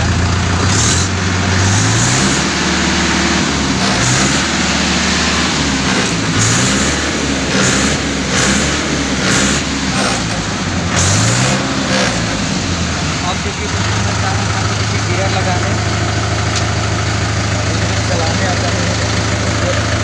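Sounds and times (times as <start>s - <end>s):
tractor diesel engine revving: 0.0s - 20.0s.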